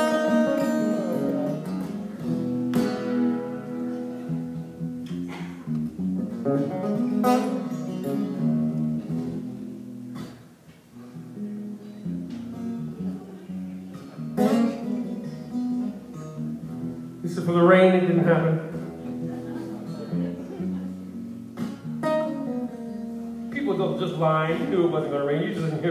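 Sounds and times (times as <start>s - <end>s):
acoustic guitar strumming chords: 0.0s - 25.9s.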